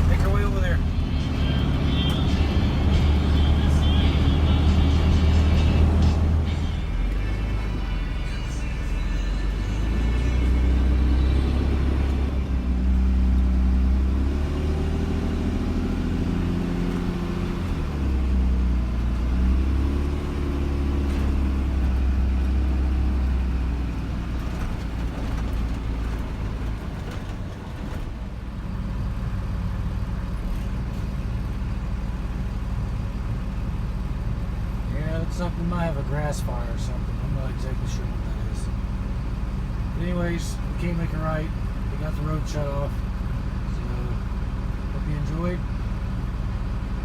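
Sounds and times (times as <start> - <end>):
car engine accelerating: 0.0 - 47.0
road noise: 0.0 - 47.0.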